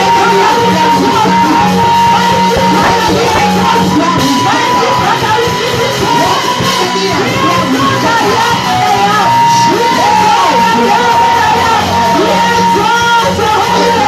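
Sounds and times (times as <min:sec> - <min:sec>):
loud music: 0:00.0 - 0:14.0
person singing: 0:00.0 - 0:14.0.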